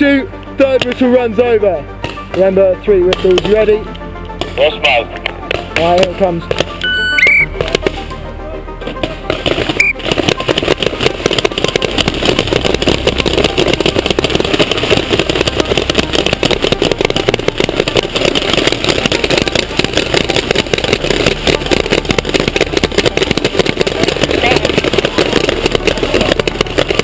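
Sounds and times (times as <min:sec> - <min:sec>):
paintball markers firing: 0:00.4 - 0:01.3, 0:02.0 - 0:08.1, 0:08.8 - 0:27.0.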